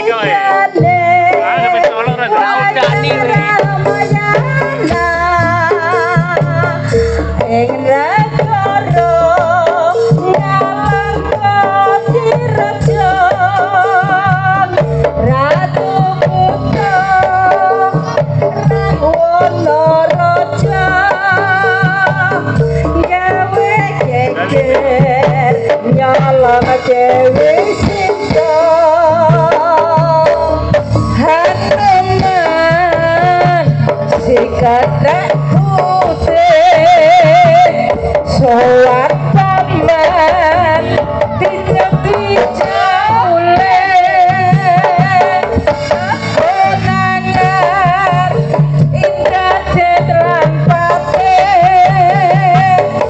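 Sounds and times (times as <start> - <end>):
hand drums repeating beat: 0.0 - 53.0.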